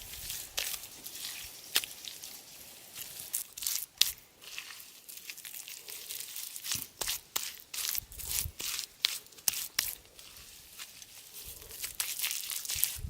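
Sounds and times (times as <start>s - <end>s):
dry material rustling and crackling: 0.0s - 13.0s.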